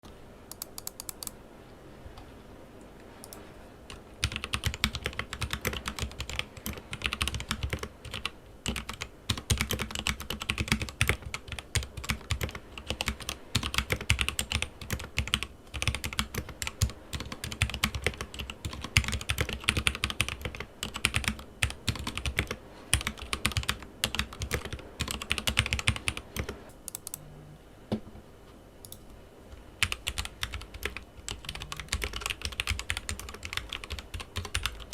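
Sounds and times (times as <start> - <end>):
mechanical keyboard typing: 0.5 - 1.4, 3.2 - 27.2, 29.8 - 34.9.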